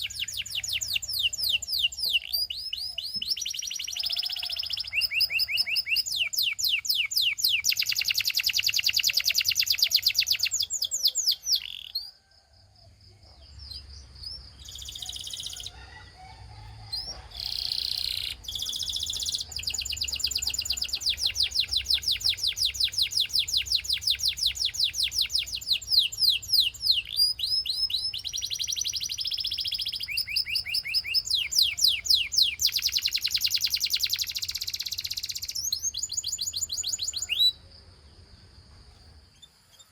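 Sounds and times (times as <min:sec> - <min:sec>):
canary singing trills: 0:00.0 - 0:12.3, 0:13.2 - 0:37.7.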